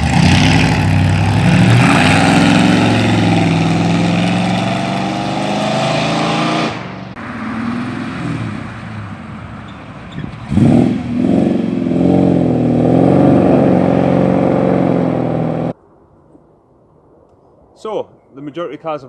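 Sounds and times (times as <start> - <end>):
car engine revving and pulling away: 0.0 - 15.8
car engines running: 0.0 - 15.8.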